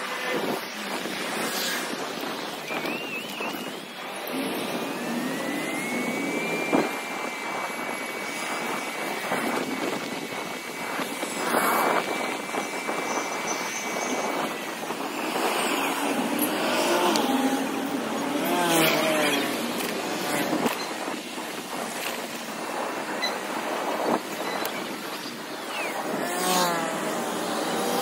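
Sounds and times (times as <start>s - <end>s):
street traffic rushing: 0.0s - 23.0s
thin steady whine: 0.0s - 28.0s.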